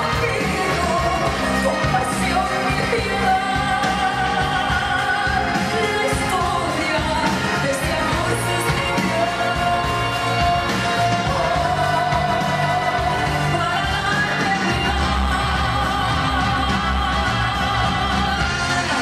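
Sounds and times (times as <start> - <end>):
instrumental accompaniment: 0.0 - 19.0
person singing: 0.0 - 19.0.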